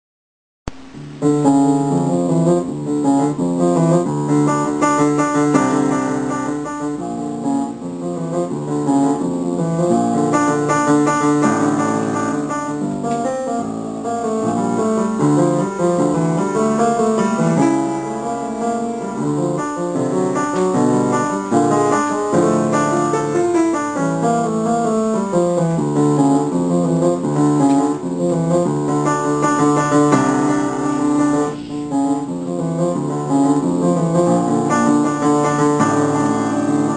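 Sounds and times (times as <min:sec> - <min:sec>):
solo piano playing: 0:00.7 - 0:36.9.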